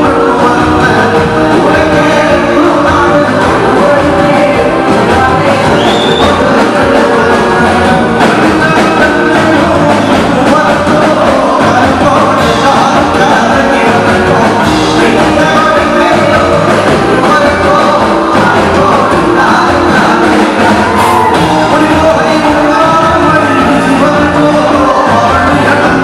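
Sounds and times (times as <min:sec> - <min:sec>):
live band playing folk song: 0:00.0 - 0:26.0
person singing: 0:00.0 - 0:26.0.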